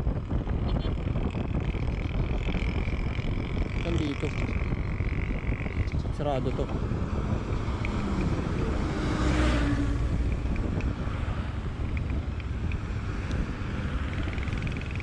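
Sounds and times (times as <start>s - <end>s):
car engine and road rumble: 0.0s - 15.0s
wind noise on microphone: 0.0s - 15.0s.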